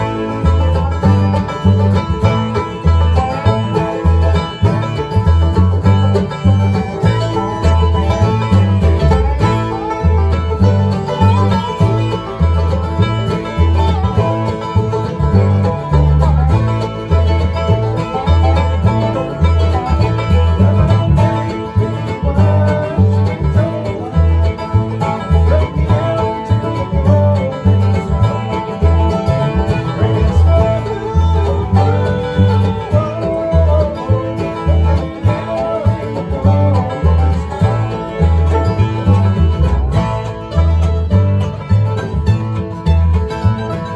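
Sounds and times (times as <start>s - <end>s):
picked banjo: 0.0s - 43.9s
rhythmic bass line: 0.0s - 43.9s
strummed guitar: 0.0s - 43.9s.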